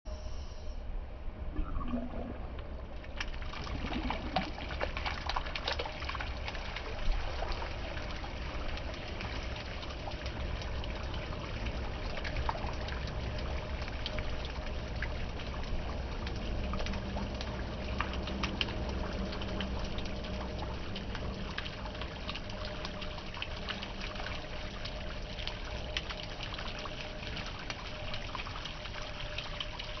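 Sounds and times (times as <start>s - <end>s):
water splashing onto paving: 3.0s - 30.0s.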